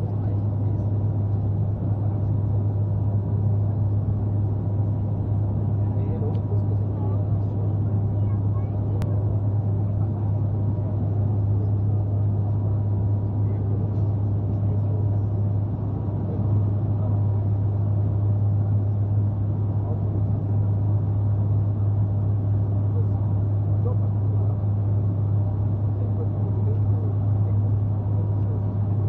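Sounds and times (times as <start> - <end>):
engine and airflow noise: 0.0 - 29.0
propeller low hum: 0.0 - 29.0.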